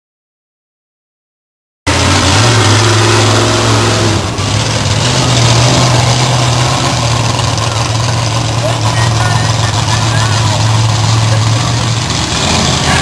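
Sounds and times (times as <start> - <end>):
truck engine deep drone: 1.9 - 13.0.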